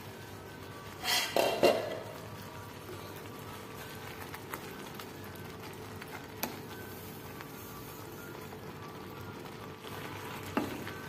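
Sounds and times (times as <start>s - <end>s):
mixture bubbling in a frying pan: 0.0s - 11.0s.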